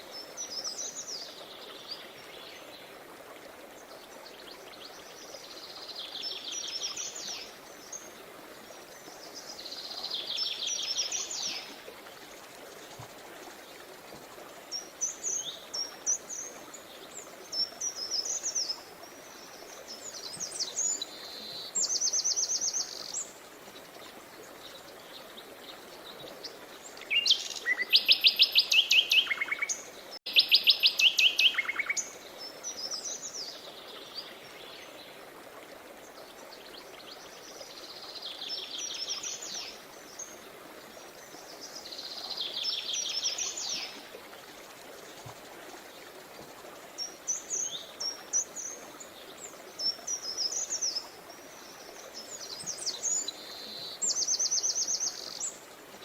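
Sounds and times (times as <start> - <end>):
songbirds singing: 3.8 - 35.3, 36.0 - 56.0.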